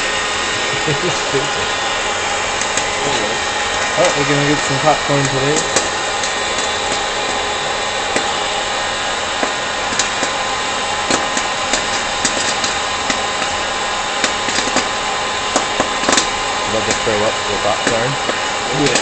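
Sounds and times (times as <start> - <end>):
popcorn popper fan blowing: 0.0 - 19.0
popcorn kernels popping: 2.5 - 19.0.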